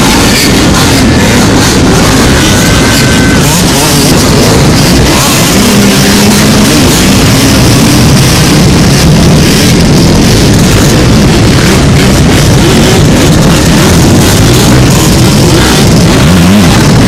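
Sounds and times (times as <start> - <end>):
many engines revving: 0.0 - 17.0.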